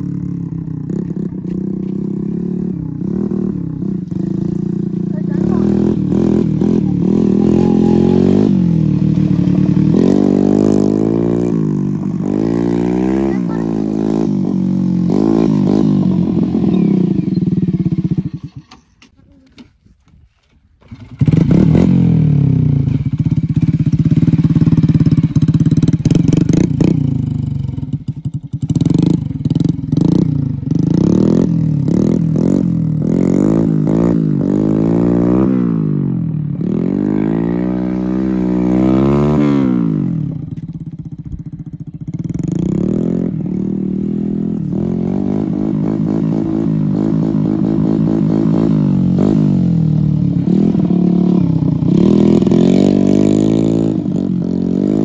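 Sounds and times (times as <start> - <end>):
small motorcycle engine revving: 0.0 - 19.0, 20.8 - 55.0.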